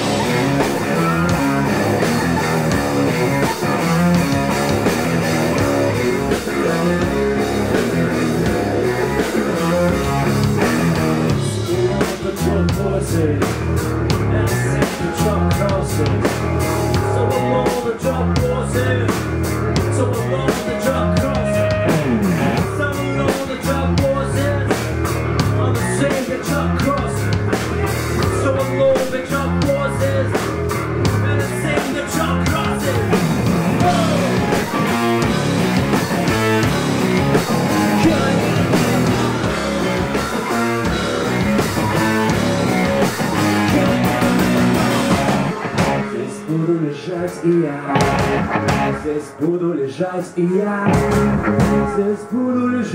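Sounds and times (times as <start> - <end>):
drum kit: 0.0 - 49.1, 50.7 - 52.4
bass guitar: 0.0 - 52.9
electric guitars: 0.0 - 52.9.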